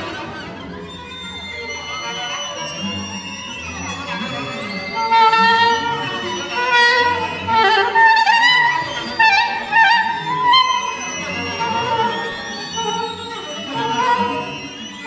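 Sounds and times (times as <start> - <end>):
string orchestra: 0.0 - 15.0.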